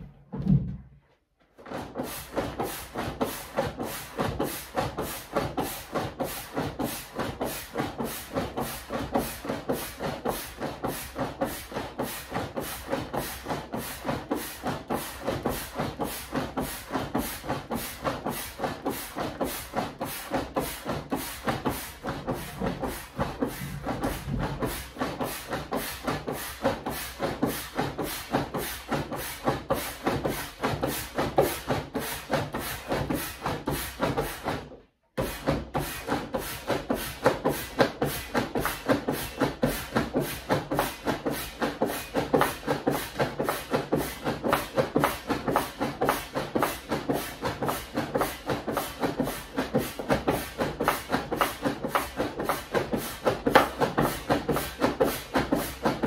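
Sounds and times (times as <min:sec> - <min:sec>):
foot pump puffing air: 0:01.6 - 0:56.0.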